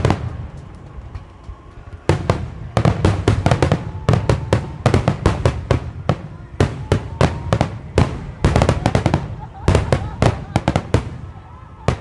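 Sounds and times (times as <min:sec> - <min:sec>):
fireworks bangs: 0:00.0 - 0:12.0
fireworks echo: 0:00.0 - 0:12.0.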